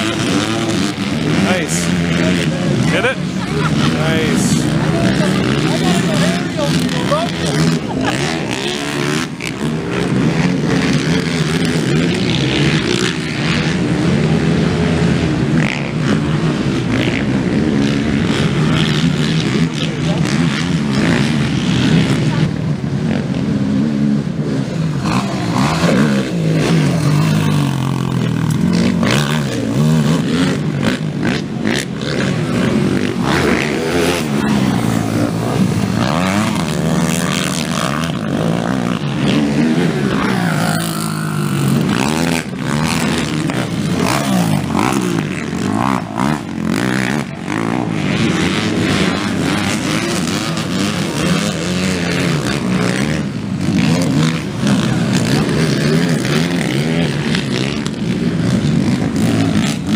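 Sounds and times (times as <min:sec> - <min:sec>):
racing atv engines revving: 0:00.0 - 0:59.9.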